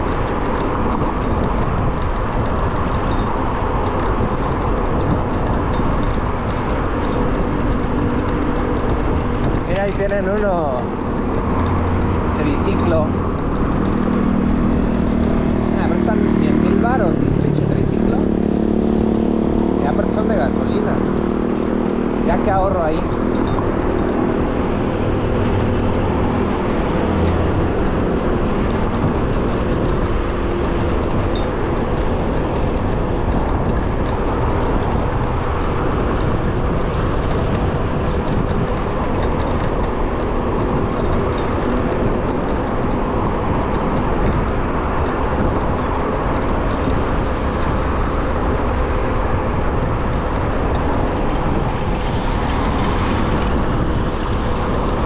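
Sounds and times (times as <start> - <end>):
road traffic noise: 0.0 - 55.0
rushing wind: 0.0 - 55.0.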